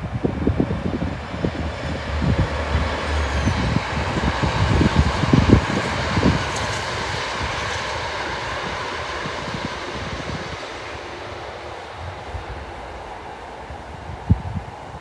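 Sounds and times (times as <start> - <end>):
diesel train passing: 0.0 - 15.0
wind gusts on microphone: 0.0 - 15.0.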